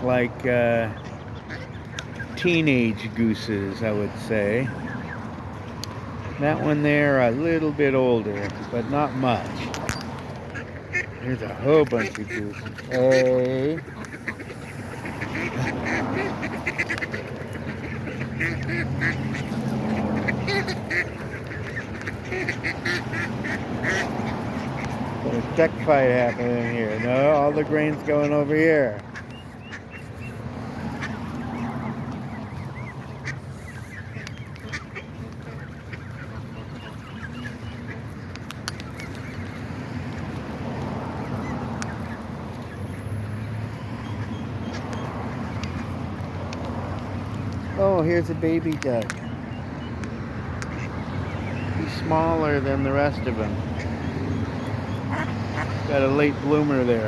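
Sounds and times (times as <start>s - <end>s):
ducks quacking: 0.0s - 57.0s.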